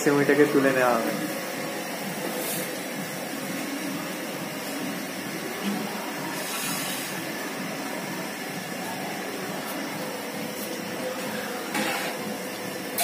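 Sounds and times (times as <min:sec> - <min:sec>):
dough deep-frying in hot oil: 0:00.0 - 0:13.0.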